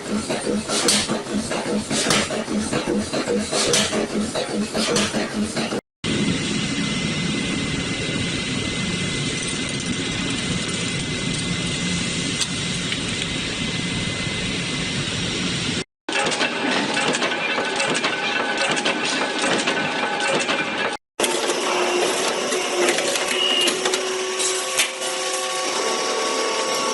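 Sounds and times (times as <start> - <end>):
factory machinery noise: 0.0 - 26.9.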